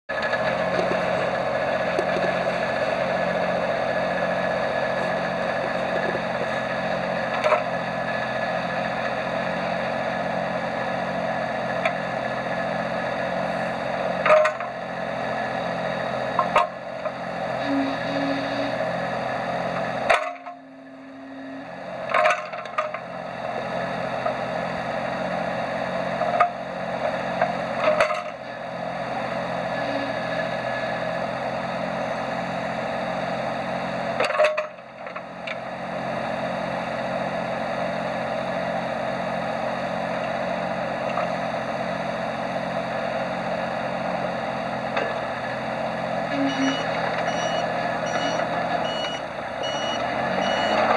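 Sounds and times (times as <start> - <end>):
excavator diesel engine running: 0.1 - 50.9.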